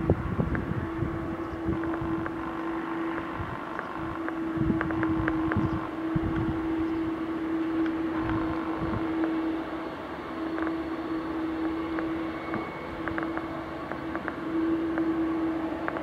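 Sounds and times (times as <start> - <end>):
jet engines humming: 0.0 - 16.0
wind buffeting microphone: 0.0 - 16.0.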